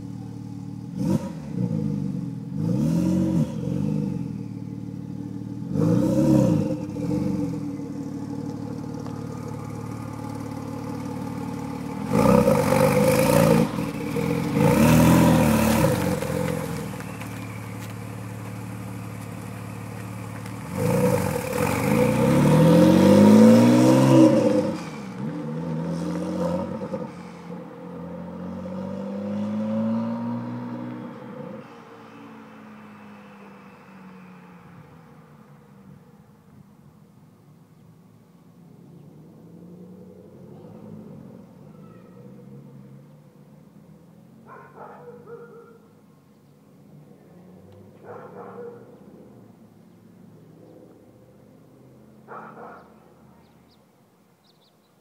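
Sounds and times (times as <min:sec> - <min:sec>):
car engine idling and revving: 0:00.0 - 0:54.6.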